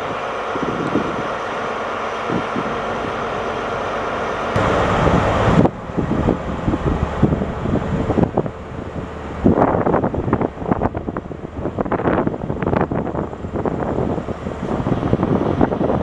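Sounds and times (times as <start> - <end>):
wind buffeting microphone: 0.0 - 1.4, 2.2 - 3.5, 4.6 - 16.0
diesel engine idling: 0.0 - 16.0
train drawing into platform: 0.0 - 16.0.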